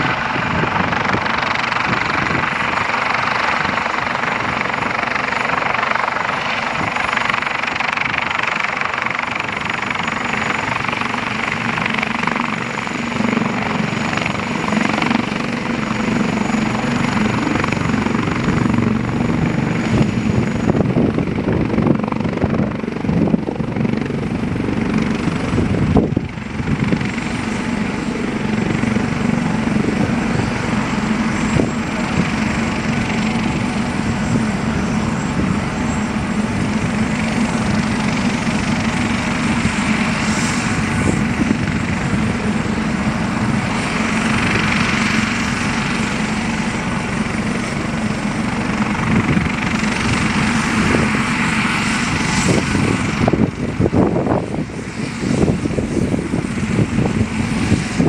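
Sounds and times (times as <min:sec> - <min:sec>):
helicopter rotor beat and turbine: 0:00.0 - 0:58.0.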